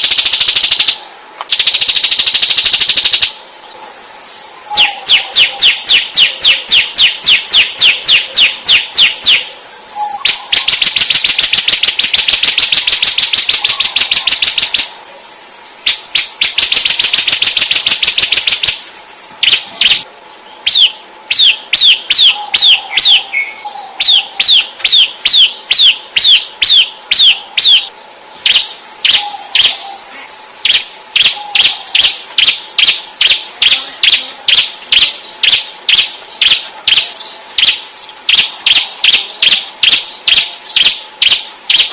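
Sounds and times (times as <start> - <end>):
songbird whistled notes: 0.0 - 20.0, 20.6 - 41.9
high-pitched insect drone: 0.0 - 41.9.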